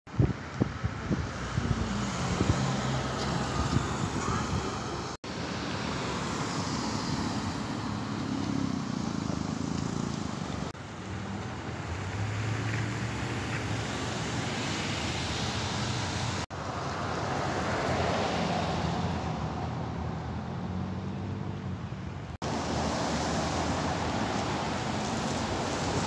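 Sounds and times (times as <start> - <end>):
cars driving past: 1.1 - 26.0.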